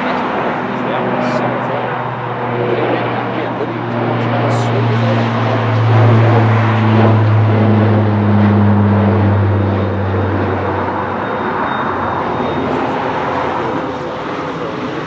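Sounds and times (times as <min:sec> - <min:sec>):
jet engines running: 0:00.0 - 0:15.0
low hum: 0:00.0 - 0:15.0.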